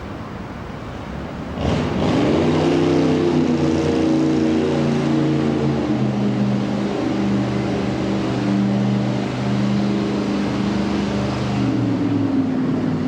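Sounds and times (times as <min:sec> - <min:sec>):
speedboat engine revving: 0:01.5 - 0:13.0.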